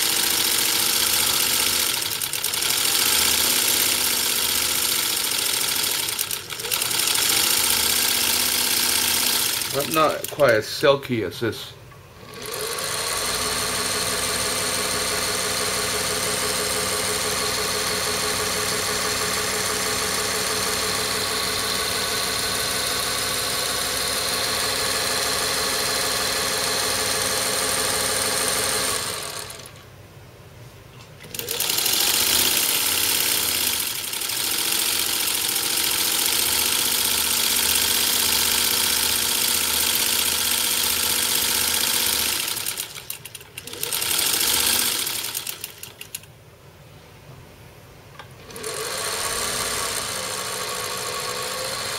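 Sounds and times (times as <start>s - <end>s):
sewing machine running: 0.0s - 10.5s, 12.2s - 29.8s, 31.2s - 46.3s, 48.4s - 51.9s.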